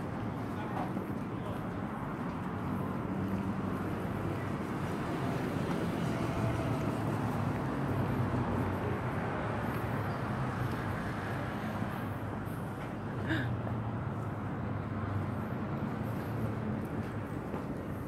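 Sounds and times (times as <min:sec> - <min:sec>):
city traffic hum: 0:00.0 - 0:18.0.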